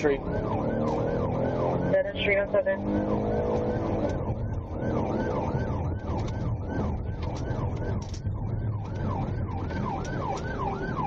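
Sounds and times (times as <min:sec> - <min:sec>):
car engine and tyres rumbling: 0:00.0 - 0:11.0
police siren yelping: 0:00.0 - 0:11.0.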